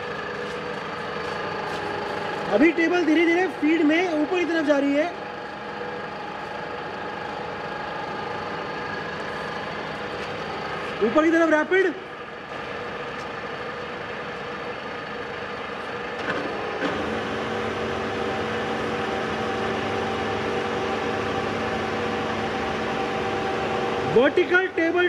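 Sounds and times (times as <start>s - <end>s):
milling machine gear hum: 0.0s - 11.3s, 12.1s - 25.0s.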